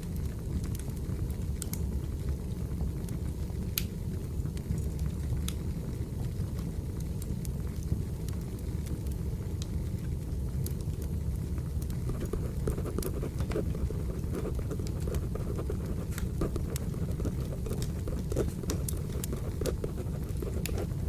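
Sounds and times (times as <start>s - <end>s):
firewood crackling: 0.1s - 21.0s.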